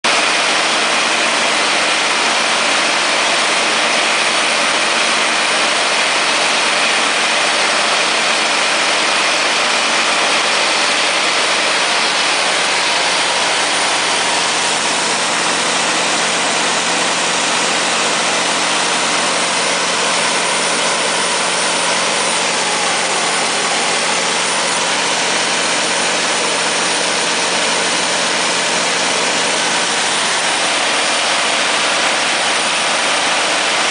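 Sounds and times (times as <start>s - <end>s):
diesel generator engine drone: 0.0s - 33.9s.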